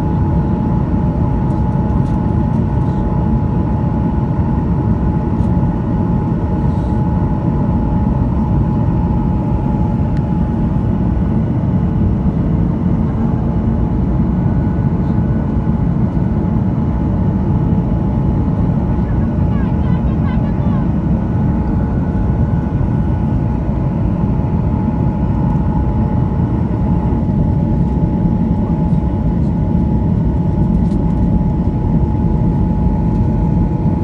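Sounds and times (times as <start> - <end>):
aircraft cabin engine roar: 0.0 - 34.0.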